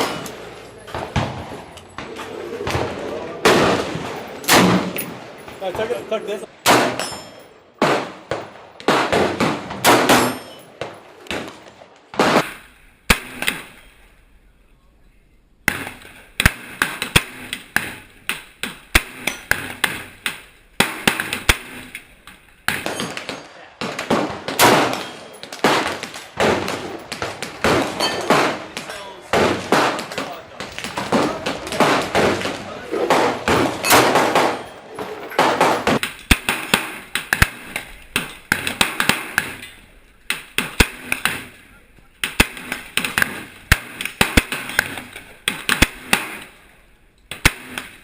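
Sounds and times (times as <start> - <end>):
rifle shots with echo: 0.0 - 5.4, 6.6 - 13.8, 15.7 - 46.6.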